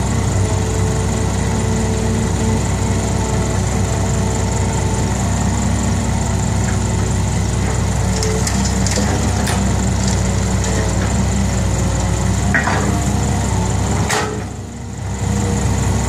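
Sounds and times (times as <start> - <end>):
dump truck diesel engine running: 0.0 - 16.0.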